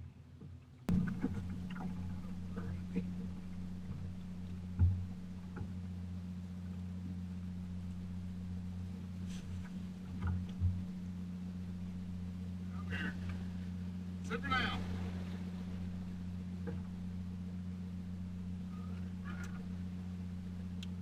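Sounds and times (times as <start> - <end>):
boat motor humming: 0.1 - 21.0.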